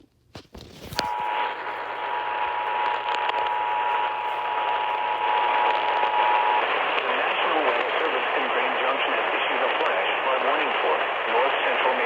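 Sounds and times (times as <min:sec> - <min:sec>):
static crackles: 0:00.6 - 0:12.0
radio static: 0:00.9 - 0:12.0.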